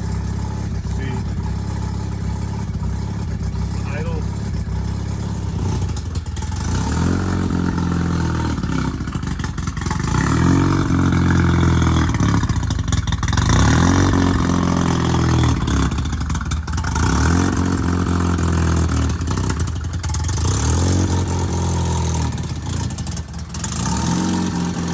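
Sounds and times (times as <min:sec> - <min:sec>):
rotary engine revving: 0:00.0 - 0:16.2, 0:16.8 - 0:24.9.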